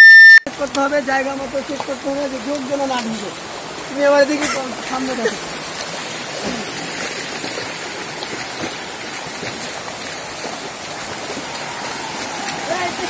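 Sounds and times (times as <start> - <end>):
stream running over boulders: 0.5 - 13.0.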